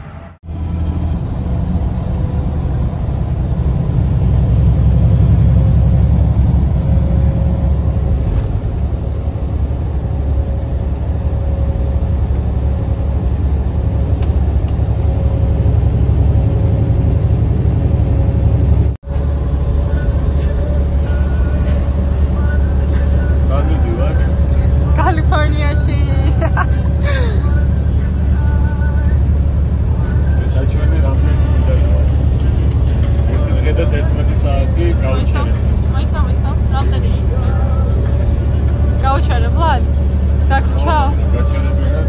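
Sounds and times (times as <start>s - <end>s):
truck engine rumble: 0.0s - 42.0s.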